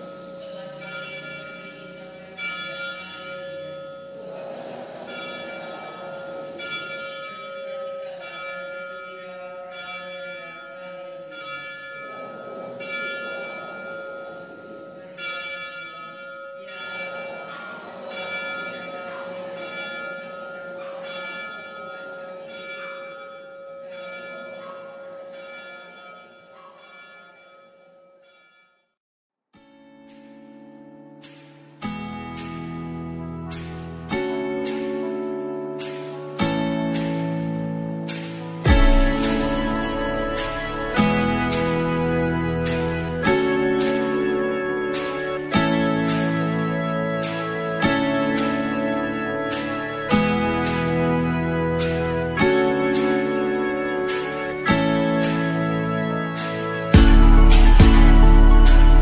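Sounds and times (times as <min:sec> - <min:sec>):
church bells ringing: 0:00.0 - 0:28.9, 0:30.4 - 0:59.0.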